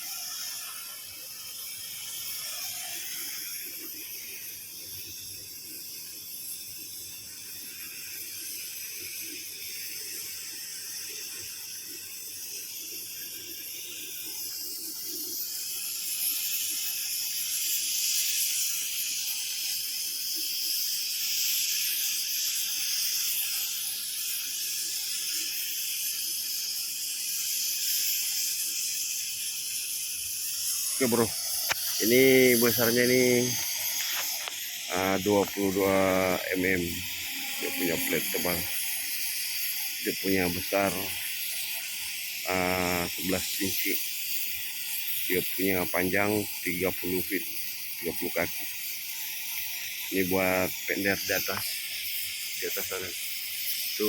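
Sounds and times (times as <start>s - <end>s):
cutting torch hissing: 0.0s - 54.0s.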